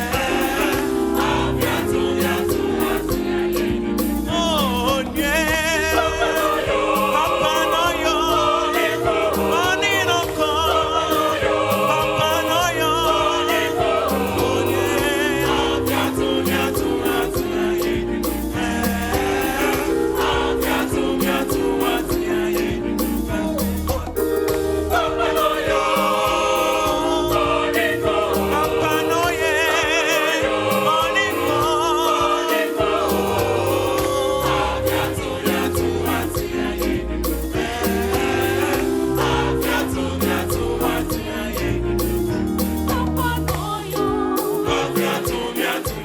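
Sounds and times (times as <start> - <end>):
bass: 0.0 - 46.0
gospel choir singing: 0.0 - 46.0
steady beat: 0.0 - 46.0.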